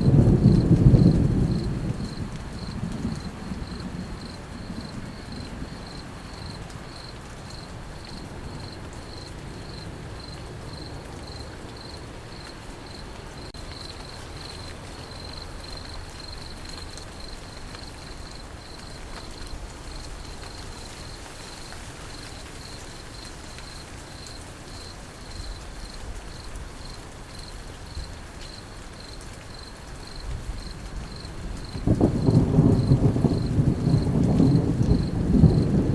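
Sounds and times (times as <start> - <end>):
crickets chirping: 0.0 - 35.9
steady rain: 0.0 - 35.9.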